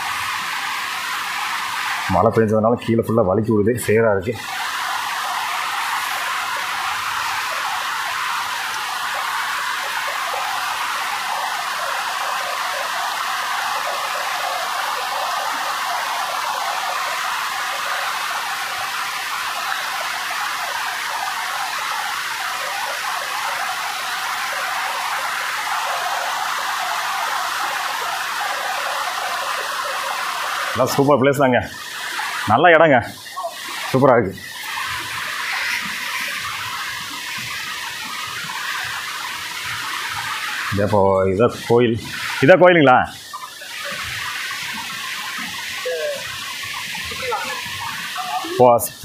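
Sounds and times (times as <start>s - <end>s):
stream rushing over boulders: 0.0s - 49.0s.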